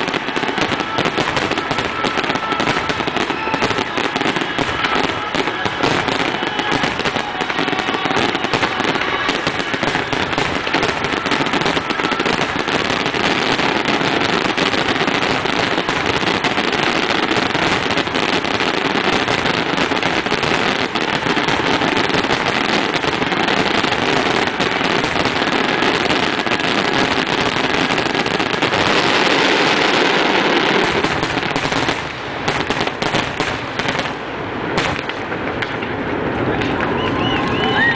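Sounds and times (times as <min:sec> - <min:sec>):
fireworks launching and bursting: 0:00.0 - 0:37.9.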